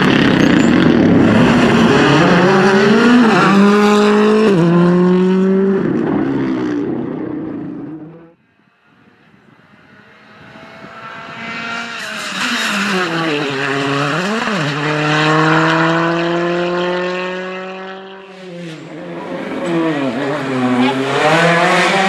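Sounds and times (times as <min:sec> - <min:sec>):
rally car accelerating hard: 0:00.0 - 0:08.4, 0:09.6 - 0:22.0
rally car engine at high revs: 0:00.0 - 0:08.4, 0:09.7 - 0:22.0.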